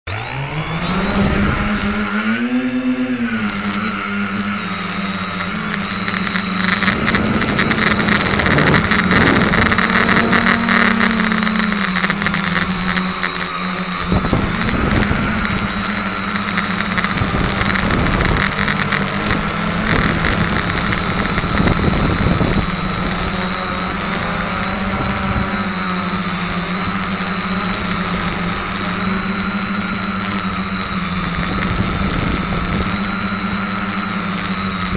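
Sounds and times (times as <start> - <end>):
drone motors and propellers: 0.1 - 34.9
gusty wind rushing: 3.2 - 34.9.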